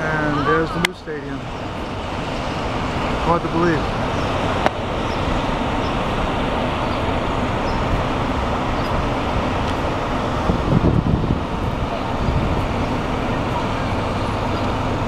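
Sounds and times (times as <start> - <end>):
city street traffic roar: 0.0 - 15.0.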